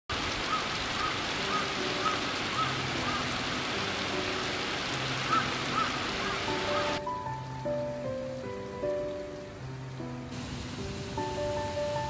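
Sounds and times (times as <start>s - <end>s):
rain pattering on ground: 0.1s - 12.0s
faint soft music: 1.5s - 12.0s.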